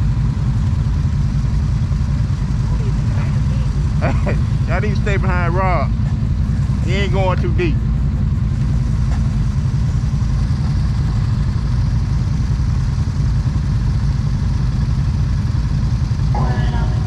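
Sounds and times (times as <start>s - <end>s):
atv engine running steadily: 0.0s - 17.0s.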